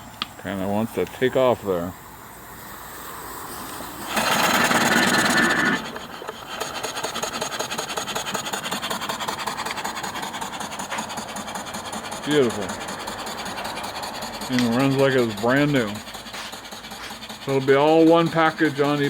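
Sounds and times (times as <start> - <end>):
rushing steam hiss: 0.0 - 19.0
steam engine running fast: 0.0 - 19.0.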